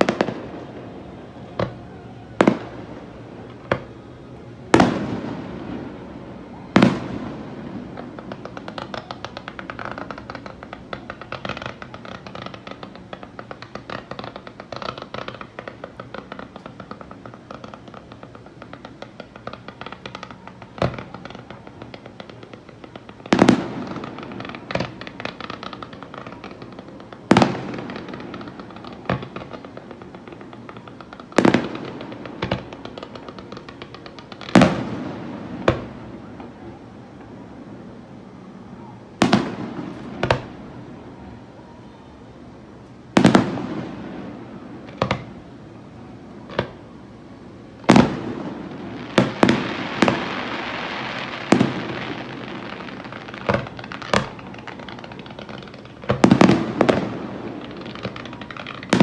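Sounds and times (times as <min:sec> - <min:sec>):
firework crackling: 0:00.0 - 0:59.0.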